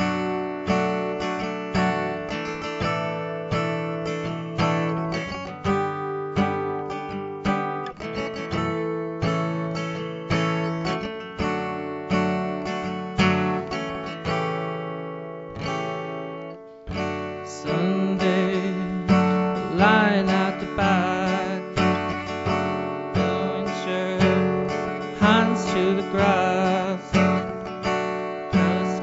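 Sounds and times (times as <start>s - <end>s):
acoustic guitar strummed chords: 0.0s - 29.0s.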